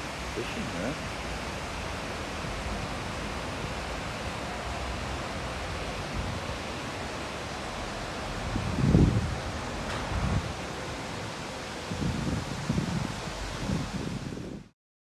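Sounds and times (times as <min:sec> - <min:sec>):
river water rushing: 0:00.0 - 0:14.4.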